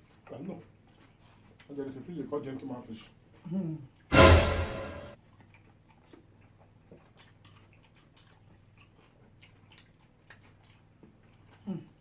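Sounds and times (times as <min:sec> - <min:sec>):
chewing and eating: 0:00.0 - 0:04.1, 0:05.2 - 0:12.0.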